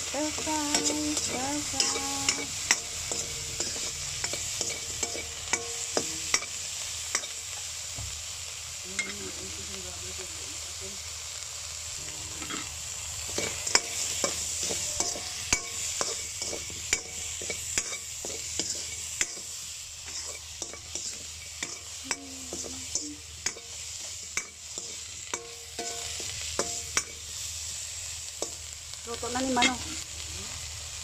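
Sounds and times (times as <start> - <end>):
utensil scraping against wok: 0.0 - 7.8, 10.6 - 31.0
prawns sizzling in butter: 0.0 - 31.0.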